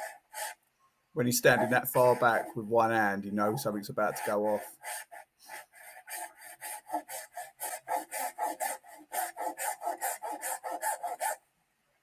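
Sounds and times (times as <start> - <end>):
handsaw sawing plastic pipe: 0.0 - 0.6, 1.2 - 11.4.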